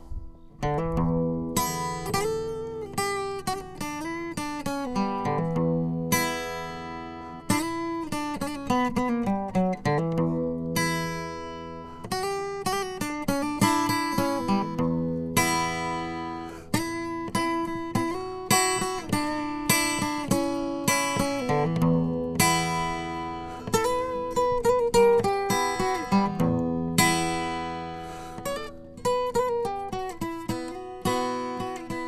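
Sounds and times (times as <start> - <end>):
acoustic guitar melody: 0.0 - 32.0.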